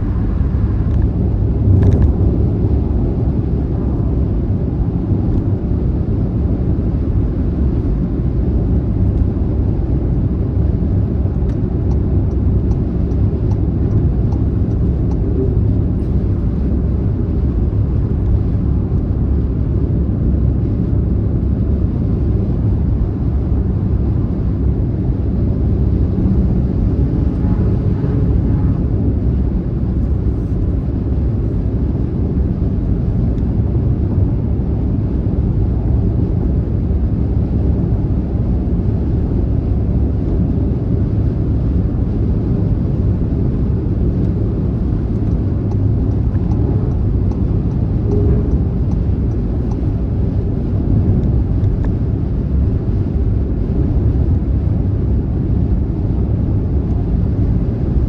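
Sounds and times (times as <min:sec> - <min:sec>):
tyre and road noise: 0:00.0 - 0:20.9, 0:21.9 - 0:33.3, 0:40.0 - 0:55.8
car engine: 0:00.0 - 0:34.4, 0:40.1 - 0:56.6.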